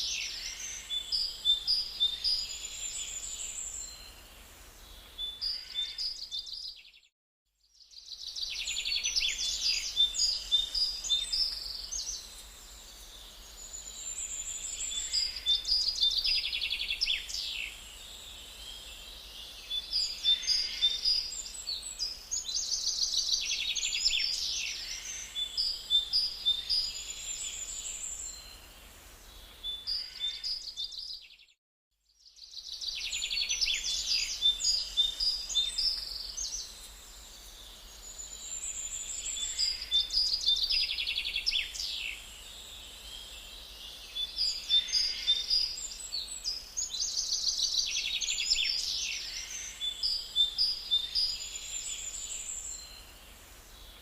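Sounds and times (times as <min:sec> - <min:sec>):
faint steady hiss: 0:00.0 - 0:06.0, 0:07.9 - 0:31.1, 0:32.3 - 0:54.0
songbirds singing and chirping: 0:00.0 - 0:07.1, 0:07.7 - 0:54.0.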